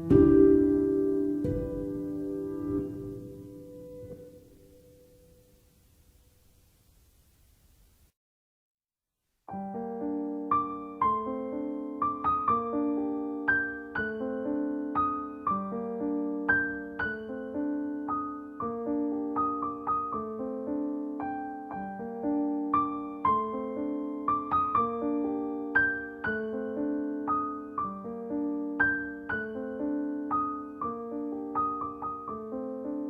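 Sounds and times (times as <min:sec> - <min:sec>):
gentle solo piano: 0:00.0 - 0:05.5, 0:09.5 - 0:33.0.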